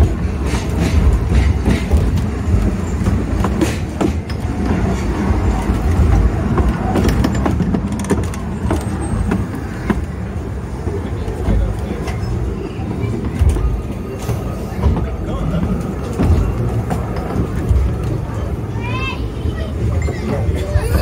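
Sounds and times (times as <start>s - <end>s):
train rumbling along track: 0.0s - 21.0s
wheels clicking over rail joints: 0.0s - 21.0s.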